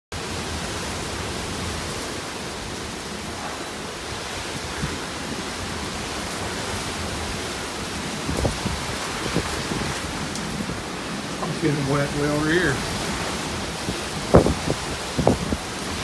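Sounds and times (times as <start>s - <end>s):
heavy rain pouring: 0.1s - 16.0s
strong wind: 0.2s - 16.0s.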